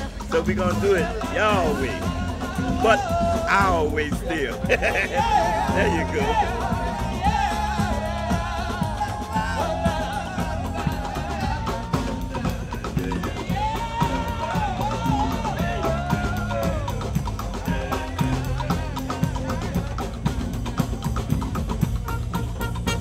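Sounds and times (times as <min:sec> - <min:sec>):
marching band playing: 0:00.0 - 0:23.0.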